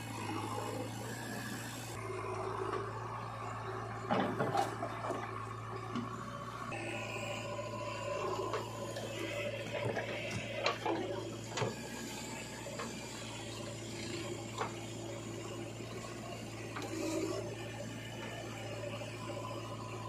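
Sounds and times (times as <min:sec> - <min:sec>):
backhoe diesel engine running: 0:00.0 - 0:20.0.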